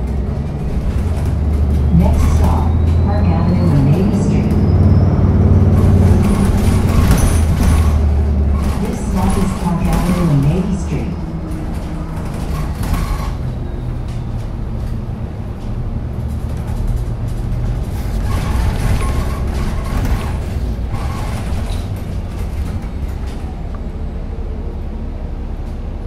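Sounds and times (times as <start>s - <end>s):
bus engine rumble: 0.0s - 26.0s
road noise: 0.0s - 26.0s.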